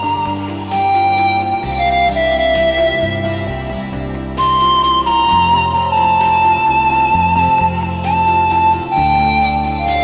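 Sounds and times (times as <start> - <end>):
flute melody: 0.0 - 10.0.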